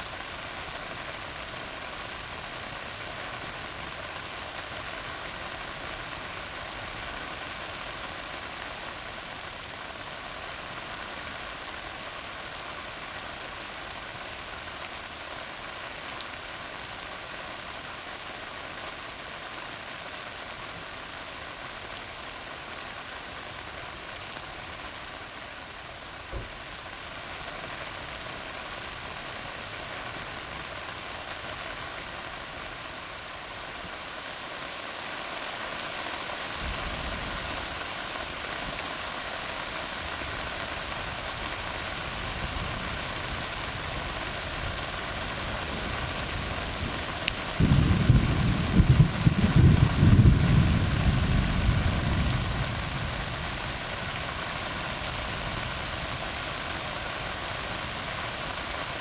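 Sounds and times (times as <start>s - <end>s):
rain falling on road: 0.0s - 59.0s.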